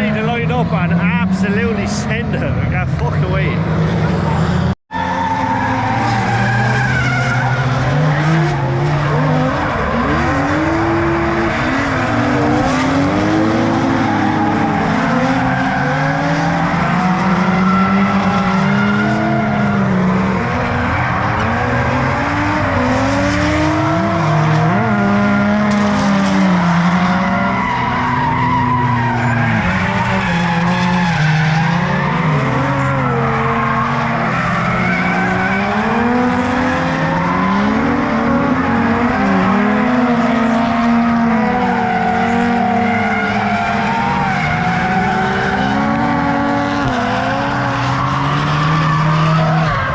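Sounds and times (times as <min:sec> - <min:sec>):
car engines revving: 0:00.0 - 0:49.9
tyres squealing and skidding: 0:00.0 - 0:49.9.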